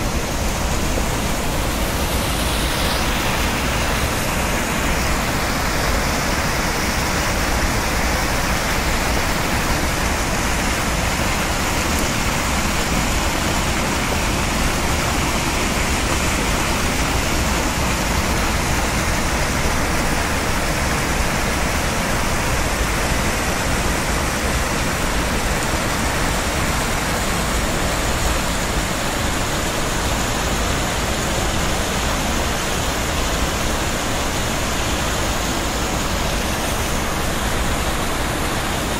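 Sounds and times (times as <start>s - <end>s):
water rushing over weir: 0.0s - 38.9s.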